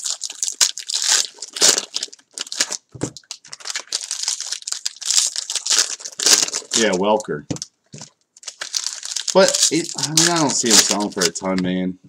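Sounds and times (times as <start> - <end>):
plastic wrappers crinkling and tearing: 0.0 - 11.6.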